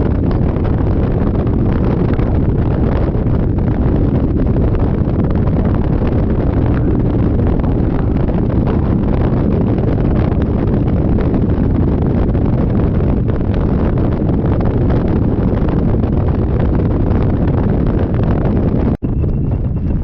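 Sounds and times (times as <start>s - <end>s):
low rumble of travel: 0.0s - 20.0s
wind rushing over microphone: 0.0s - 20.0s.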